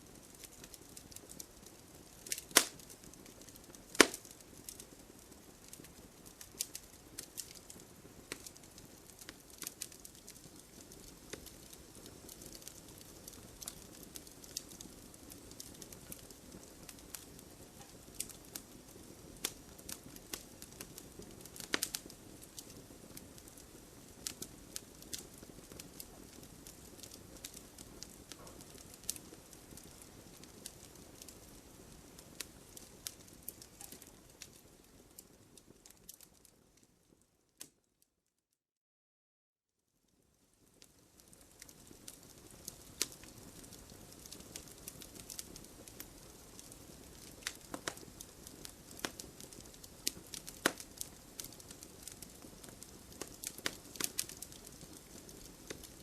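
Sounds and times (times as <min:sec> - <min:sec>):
wood fire crackling: 0:00.0 - 0:37.8, 0:40.1 - 0:56.0.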